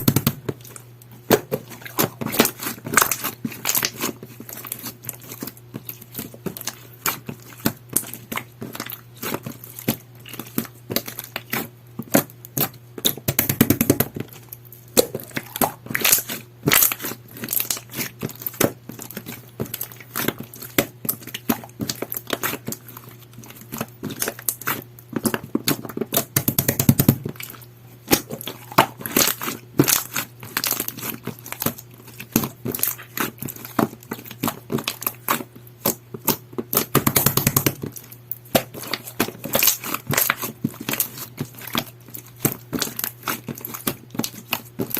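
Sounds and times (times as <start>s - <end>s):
slime squelching by hand: 0.0s - 44.9s.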